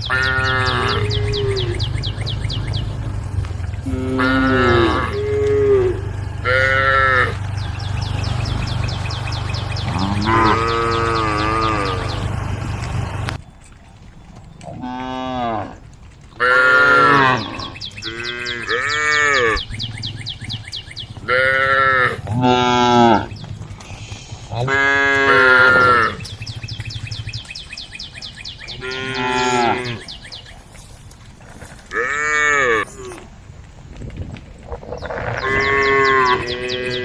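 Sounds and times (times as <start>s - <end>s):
cows mooing: 0.0s - 13.4s, 14.6s - 19.7s, 21.2s - 27.4s, 28.7s - 30.2s, 31.7s - 33.2s, 35.0s - 37.0s.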